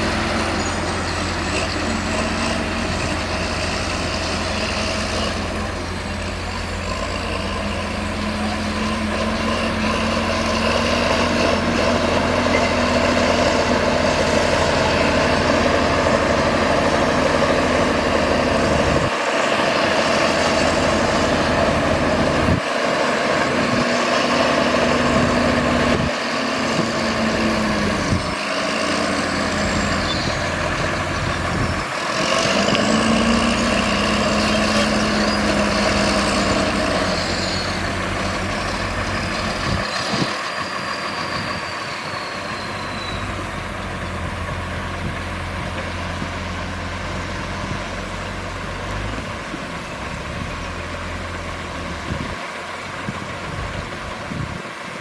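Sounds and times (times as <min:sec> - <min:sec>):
heavy machinery diesel engines running: 0:00.0 - 0:55.0.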